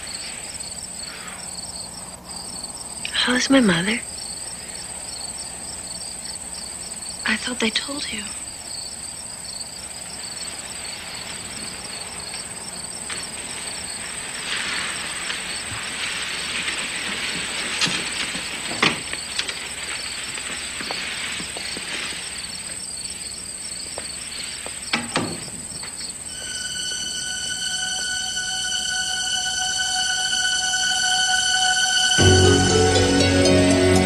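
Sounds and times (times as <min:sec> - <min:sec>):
crickets chirping: 0:00.0 - 0:34.0
high insect trill: 0:00.0 - 0:34.0
rustling hiss: 0:00.0 - 0:34.0.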